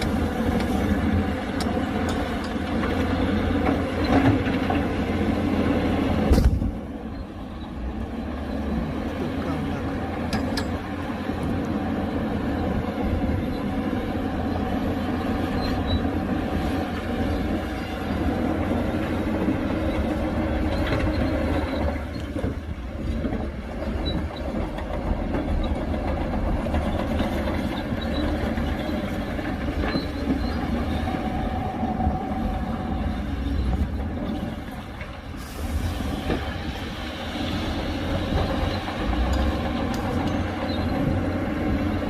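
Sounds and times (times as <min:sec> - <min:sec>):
heavy machinery engine rumble: 0:00.0 - 0:42.0.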